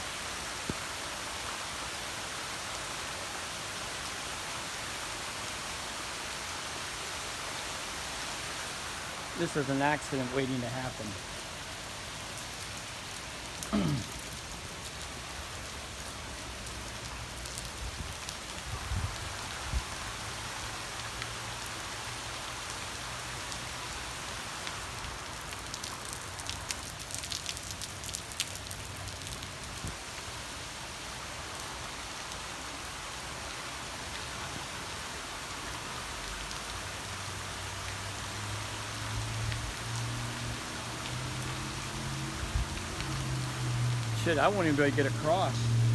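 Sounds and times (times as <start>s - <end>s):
heavy rain hiss: 0.0s - 45.9s.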